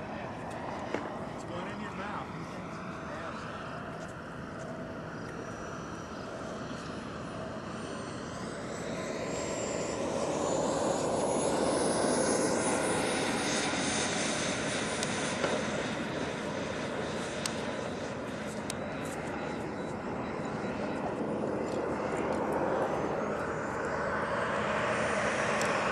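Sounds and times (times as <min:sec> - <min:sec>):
small jet turbine whine: 0:00.0 - 0:25.9.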